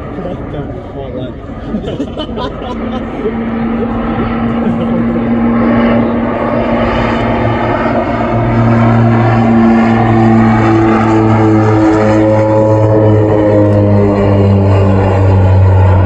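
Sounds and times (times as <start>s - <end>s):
propeller aircraft drone: 0.0s - 16.0s.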